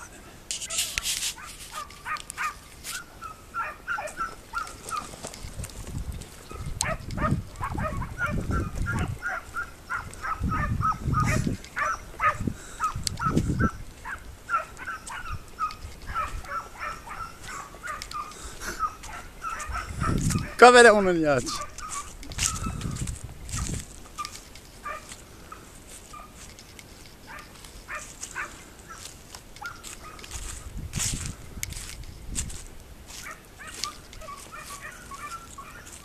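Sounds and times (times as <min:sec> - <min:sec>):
distant dogs barking: 0:00.6 - 0:05.5, 0:06.3 - 0:31.3, 0:33.1 - 0:36.0.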